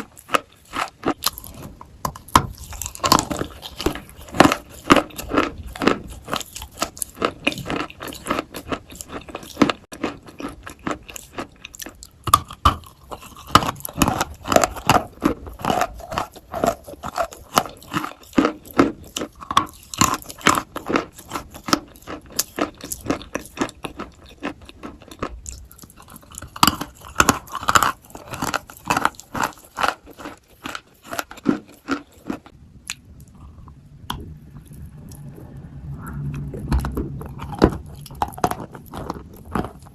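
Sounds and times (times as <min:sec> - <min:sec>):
chewing wet crunchy chalk: 0:00.0 - 0:35.3, 0:36.3 - 0:39.9.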